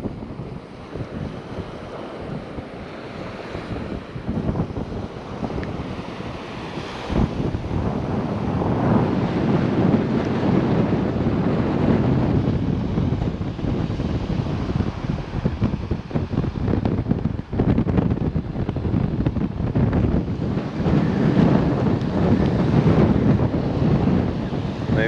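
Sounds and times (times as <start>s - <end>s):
ocean surf breaking: 0.0s - 25.0s
wind buffeting microphone: 0.0s - 25.0s.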